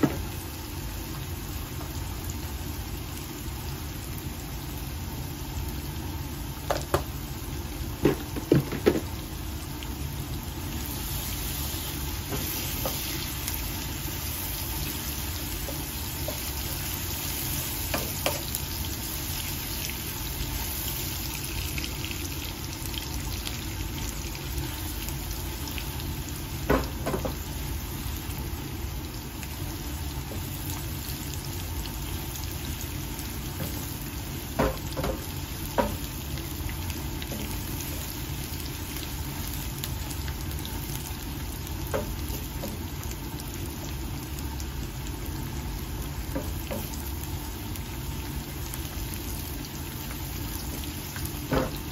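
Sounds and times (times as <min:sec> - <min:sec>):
potatoes frying in oil: 0:00.0 - 0:51.9.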